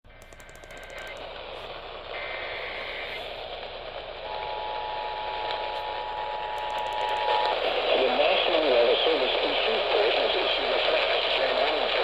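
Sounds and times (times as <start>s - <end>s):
radio hiss: 0.3s - 12.0s.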